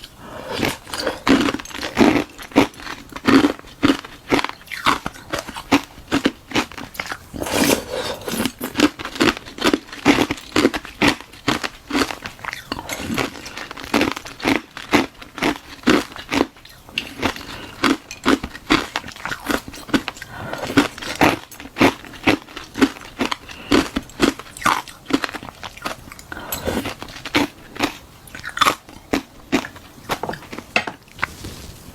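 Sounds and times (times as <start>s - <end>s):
ice crunching between teeth: 0.0s - 31.7s.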